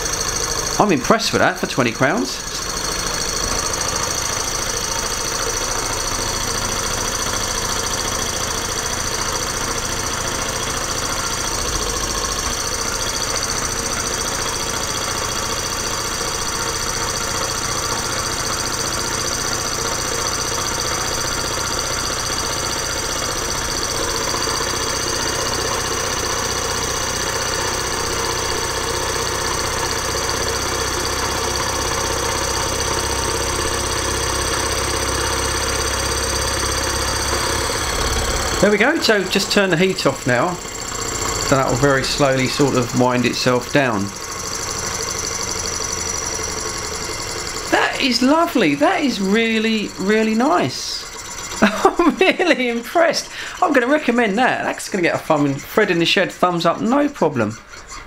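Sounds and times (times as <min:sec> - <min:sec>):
model engine running: 0:00.0 - 0:58.0.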